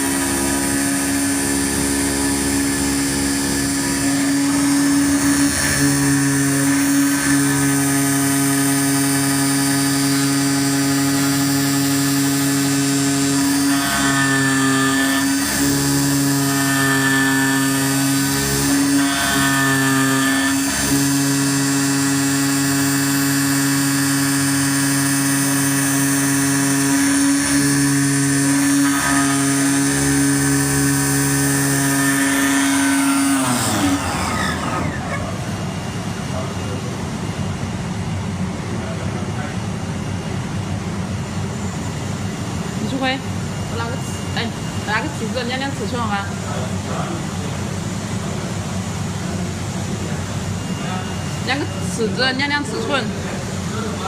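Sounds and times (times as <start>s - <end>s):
cutting machine humming: 0.0s - 54.0s.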